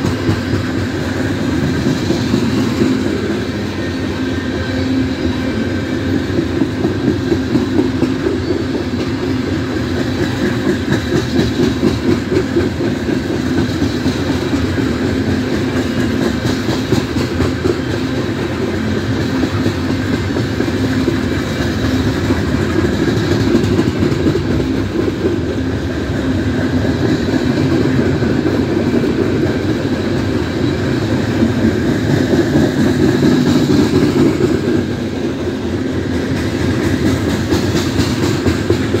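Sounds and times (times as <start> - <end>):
clickety-clack over rail joints: 0.0 - 39.0
train wheels rumbling: 0.0 - 39.0.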